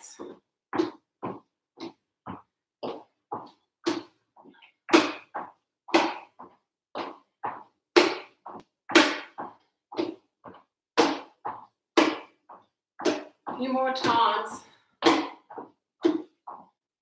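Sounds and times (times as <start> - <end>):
footsteps on wooden floorboards: 0.1 - 16.8.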